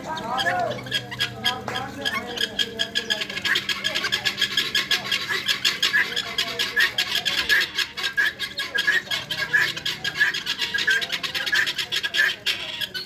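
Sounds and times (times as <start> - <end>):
guinea fowl calling: 0.0 - 13.0.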